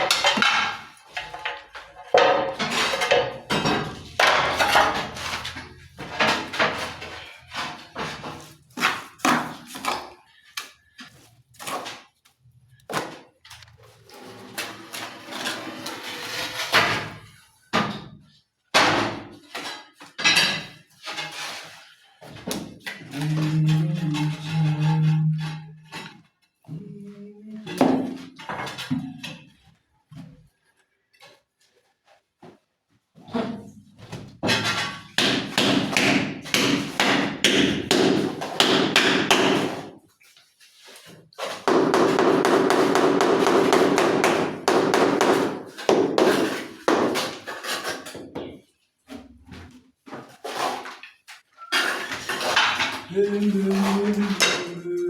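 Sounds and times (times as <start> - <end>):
continuous building work noise: 0.0 - 55.0.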